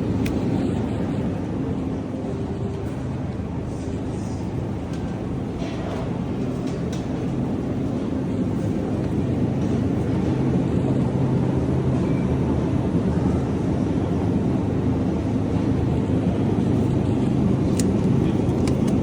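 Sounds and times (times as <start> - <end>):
constant hum: 0.0 - 19.0.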